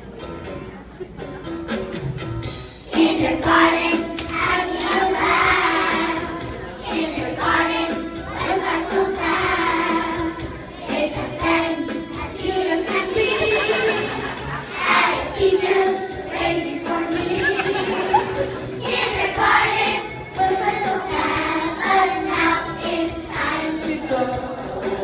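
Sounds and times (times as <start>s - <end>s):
young children singing: 2.9s - 25.0s.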